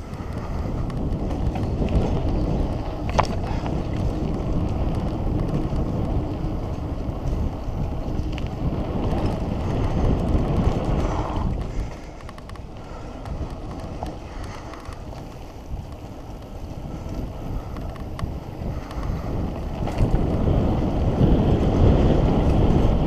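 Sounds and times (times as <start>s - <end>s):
bike rattles and clicks: 0.0s - 23.0s
bike tyres rumbling on dirt: 0.0s - 23.0s
wind rushing over microphone: 0.0s - 23.0s.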